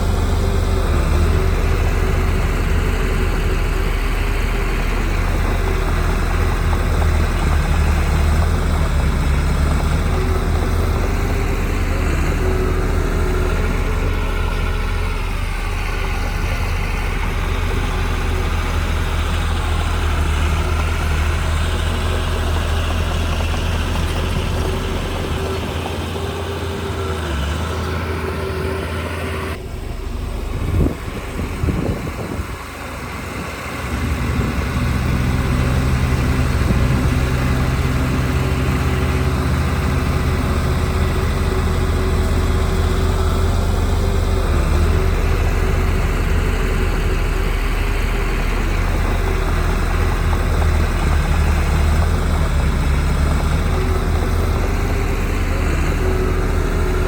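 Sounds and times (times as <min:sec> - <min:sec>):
heavy diesel engine hum: 0:00.0 - 0:57.0.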